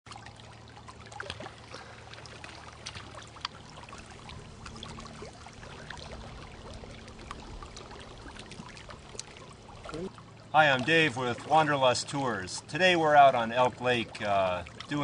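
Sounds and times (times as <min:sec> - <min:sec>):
faint low hum: 0:00.1 - 0:15.0
water lapping and dripping: 0:00.1 - 0:15.0.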